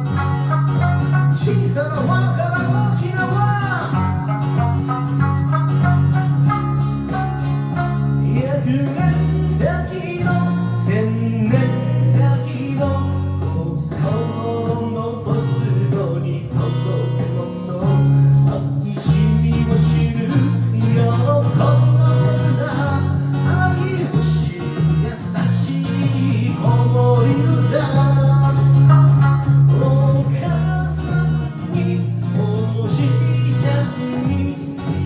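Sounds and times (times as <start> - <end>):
electric sanshin plucking melody: 0.0 - 35.0
low bass notes: 0.0 - 35.0.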